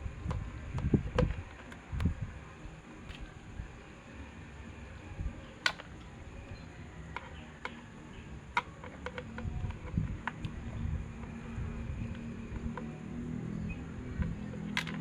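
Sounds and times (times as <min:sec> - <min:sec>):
low steady hum: 0:00.0 - 0:15.0
small parts and tools clicking: 0:00.2 - 0:02.1, 0:02.9 - 0:03.8, 0:04.6 - 0:15.0.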